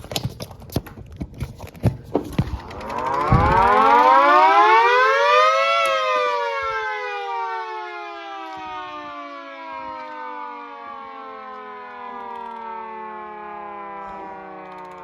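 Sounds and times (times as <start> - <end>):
siren winding up and down: 2.4 - 15.0.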